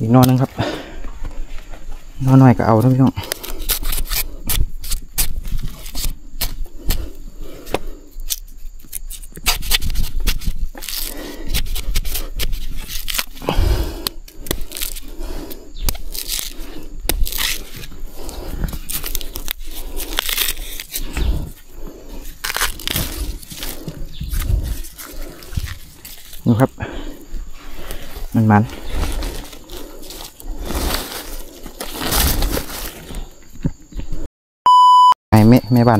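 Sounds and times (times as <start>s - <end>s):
bamboo snapping and crackling: 0.0s - 0.5s, 2.8s - 33.4s
leaves rustling: 0.0s - 33.5s.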